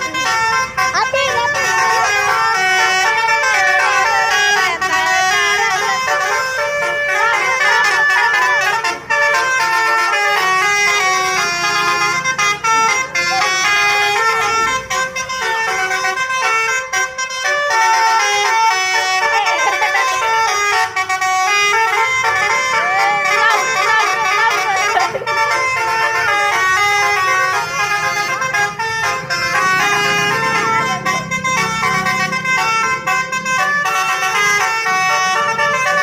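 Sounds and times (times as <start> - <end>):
multi-tone bus air horns playing tunes: 0.0 - 36.0.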